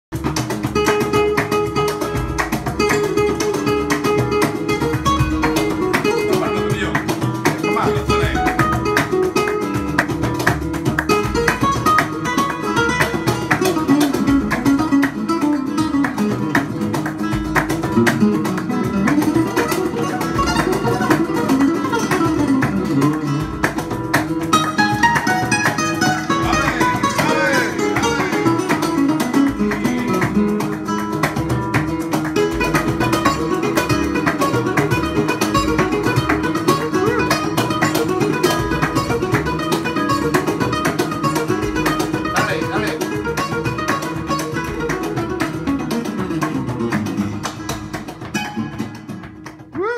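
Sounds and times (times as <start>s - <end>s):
flamenco guitar music: 0.1s - 49.9s
percussive strikes and thumps: 0.1s - 49.9s.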